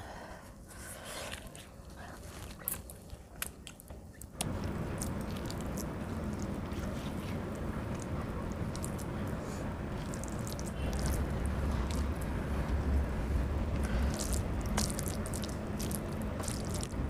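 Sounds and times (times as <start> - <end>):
chewing mouth sounds: 1.4 - 12.8, 13.7 - 17.0
fingers squishing soft rice: 2.2 - 17.0.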